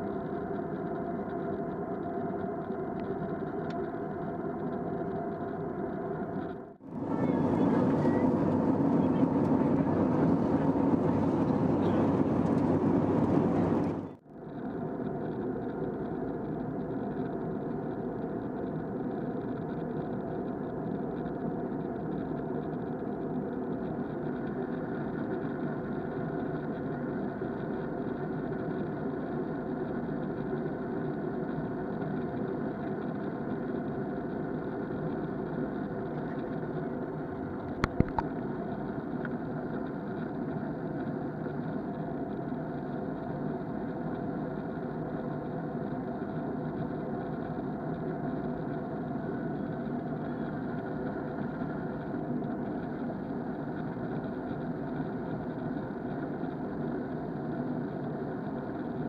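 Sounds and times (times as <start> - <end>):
airliner engine and airflow rumble: 0.0 - 55.2.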